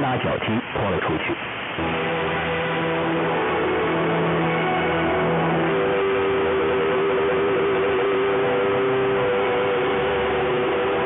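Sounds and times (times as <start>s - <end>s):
radio static hiss: 0.0s - 11.0s
music with long held notes: 1.8s - 11.0s.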